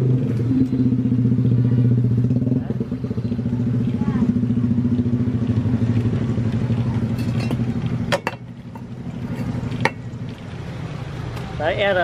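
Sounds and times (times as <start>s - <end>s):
low motor hum: 0.0s - 11.6s.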